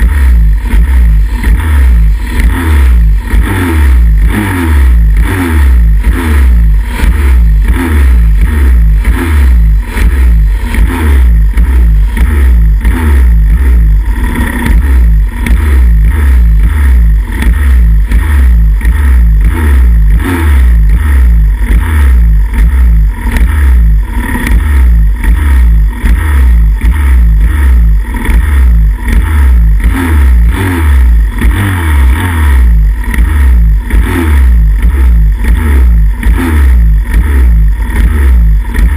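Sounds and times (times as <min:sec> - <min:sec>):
motorbike engines revving: 0:00.0 - 0:38.9.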